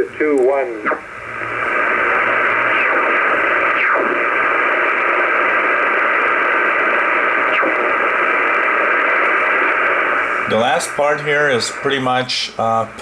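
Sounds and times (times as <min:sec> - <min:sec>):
shortwave radio hiss: 0:00.0 - 0:13.0.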